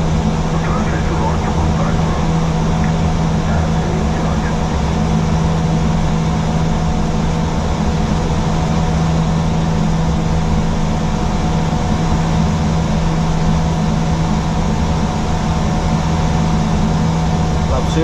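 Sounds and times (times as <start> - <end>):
aircraft cockpit engine and airflow noise: 0.0 - 18.0.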